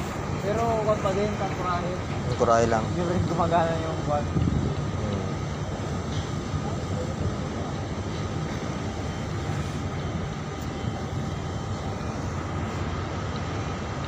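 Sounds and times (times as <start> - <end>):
ship engine rumbling: 0.0 - 14.0.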